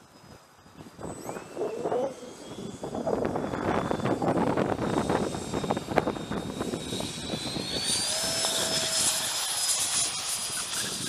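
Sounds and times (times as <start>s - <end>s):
model plane motors whining: 0.0s - 11.0s
wind buffeting microphone: 0.2s - 11.0s.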